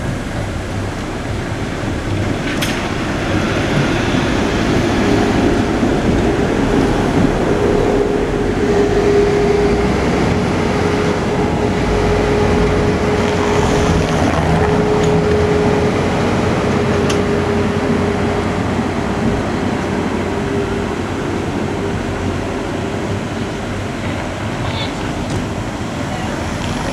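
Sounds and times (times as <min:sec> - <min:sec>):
tram wheels rumbling: 0:00.0 - 0:26.9.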